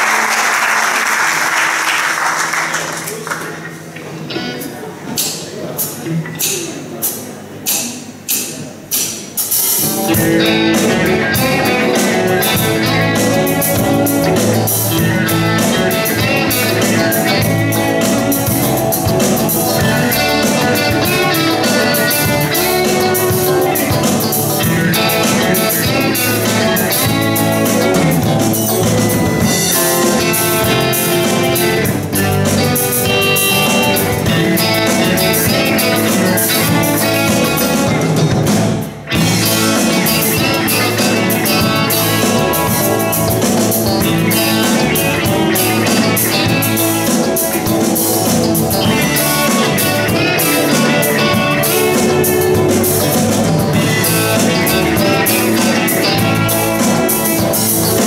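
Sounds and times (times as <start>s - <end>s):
guitar band with drums: 0.0s - 58.0s.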